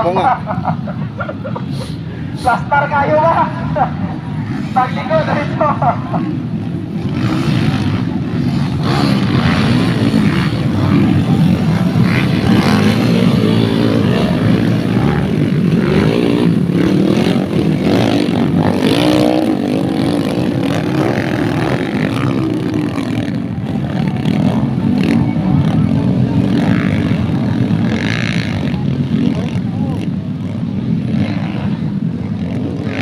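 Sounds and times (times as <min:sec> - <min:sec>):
dirt bike engines revving: 0:00.0 - 0:33.0.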